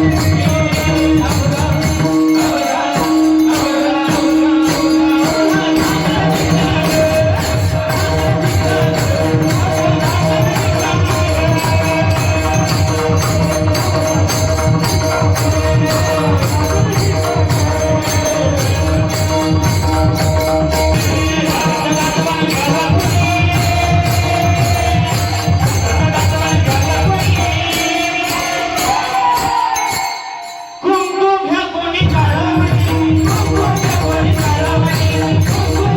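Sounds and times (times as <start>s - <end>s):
drum: 0.0s - 29.5s
jingling hand percussion: 0.0s - 35.9s.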